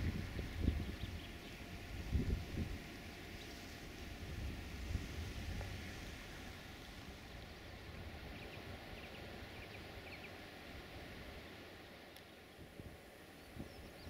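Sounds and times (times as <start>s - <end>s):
wind rumble on microphone: 0.0s - 11.6s, 12.5s - 14.0s.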